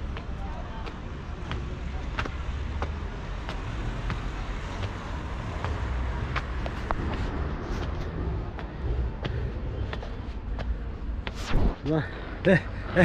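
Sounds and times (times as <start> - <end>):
footsteps climbing stairs: 0.0 - 11.4.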